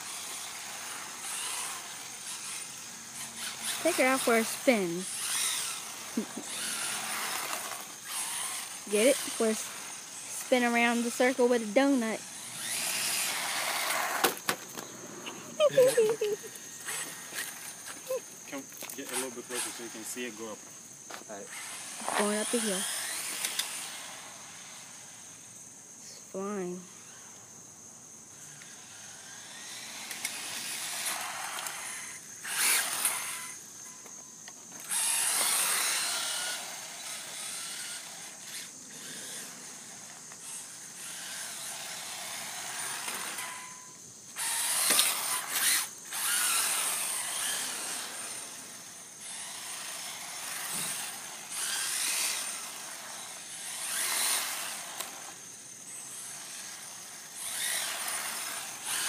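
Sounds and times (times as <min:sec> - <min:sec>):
rc car motor whining: 0:00.0 - 0:27.6, 0:28.2 - 0:59.0.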